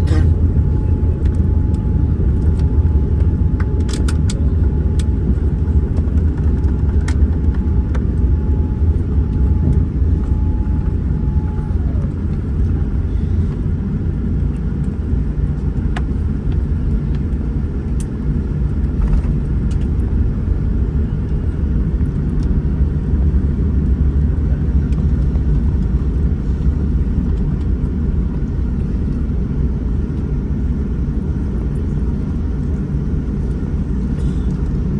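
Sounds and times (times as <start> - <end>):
airplane cabin low rumble: 0.0 - 34.9.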